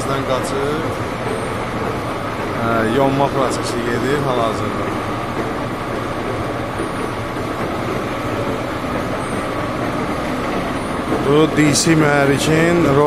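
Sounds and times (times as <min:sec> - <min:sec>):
metal lathe running: 0:00.0 - 0:13.0.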